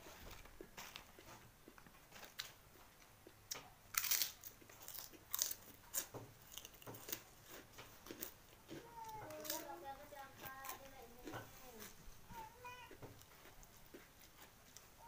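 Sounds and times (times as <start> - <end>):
crackers crunching: 0.0 - 15.0
quiet chewing: 0.0 - 15.0.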